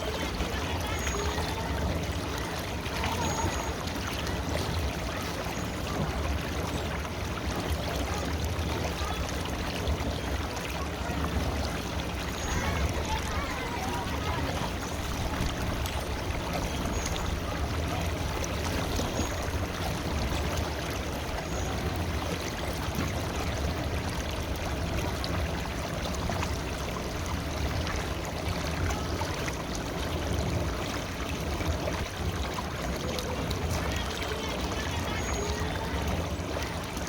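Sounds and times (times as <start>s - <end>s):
river water flowing: 0.0s - 37.0s.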